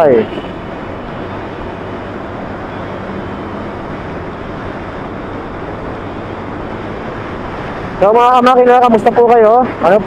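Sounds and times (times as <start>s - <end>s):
motorcycle engine hum: 0.0s - 10.0s
wind rushing over microphone: 0.0s - 10.0s.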